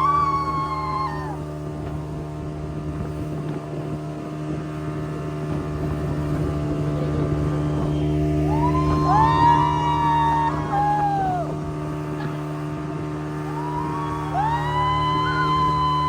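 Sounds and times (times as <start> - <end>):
speedboat engine running: 0.0 - 16.0
water rushing: 0.0 - 16.0.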